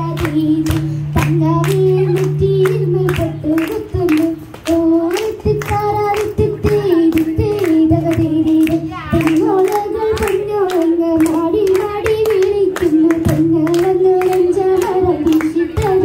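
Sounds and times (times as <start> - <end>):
girl singing into a microphone: 0.0 - 16.0
hands clapping a beat: 0.0 - 16.0.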